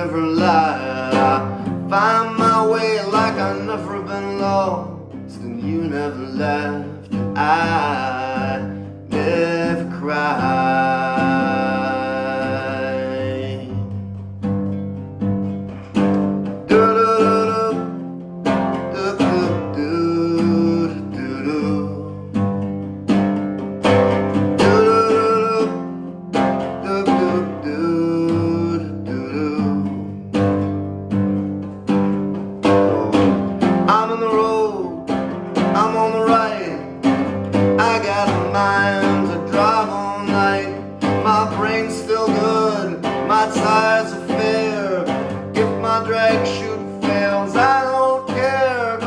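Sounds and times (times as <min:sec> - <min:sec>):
acoustic guitar playing: 0:00.0 - 0:49.0
person singing: 0:00.0 - 0:49.0.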